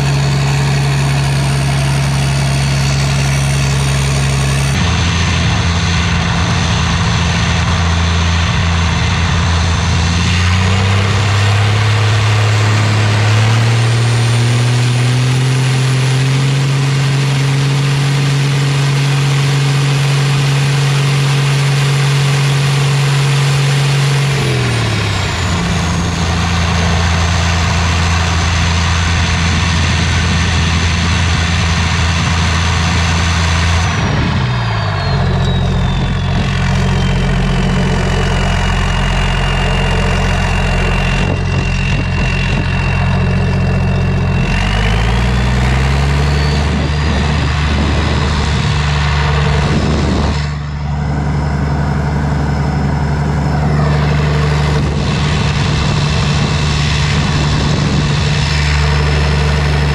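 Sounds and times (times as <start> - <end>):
diesel engine idling and revving: 0.0 - 59.9
turbo whine: 0.0 - 59.9.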